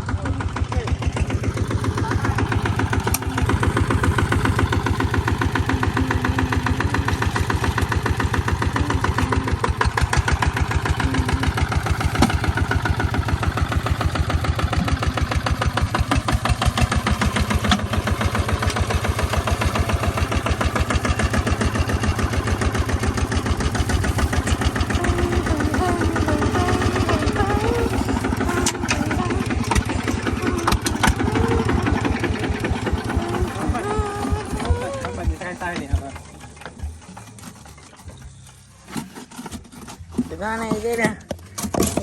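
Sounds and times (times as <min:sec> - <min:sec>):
engine knocks: 0:00.0 - 0:42.0
tractor engine running: 0:00.0 - 0:42.0.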